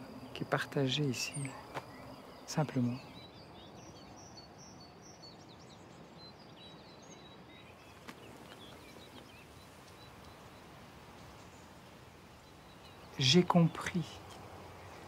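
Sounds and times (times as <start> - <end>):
small birds chirping faintly: 0.0 - 15.0.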